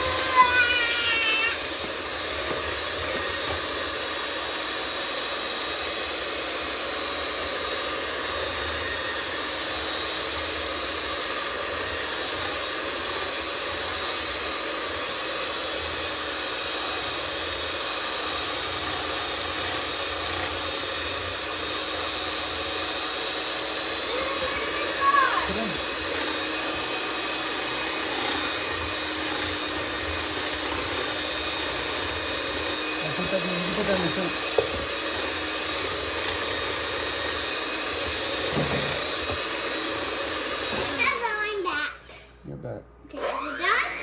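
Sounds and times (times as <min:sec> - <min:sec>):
electric hand mixer running: 0:00.0 - 0:42.2, 0:43.1 - 0:44.0.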